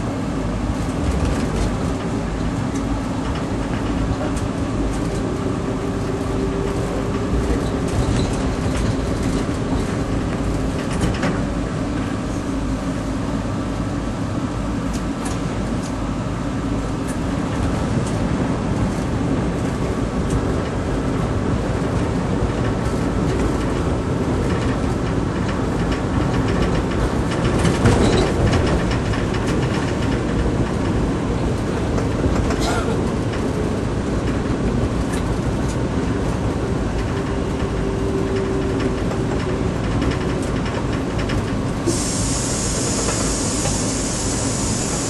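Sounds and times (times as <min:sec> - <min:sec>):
streetcar wheels and motor rumble: 0:00.0 - 0:45.0.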